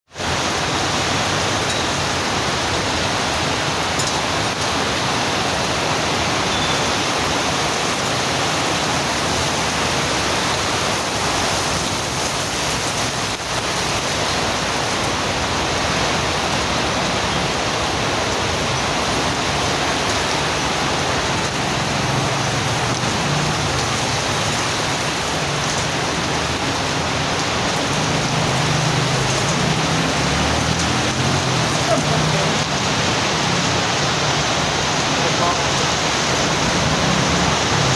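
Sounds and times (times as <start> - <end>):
heavy rain falling: 0.1 - 37.9.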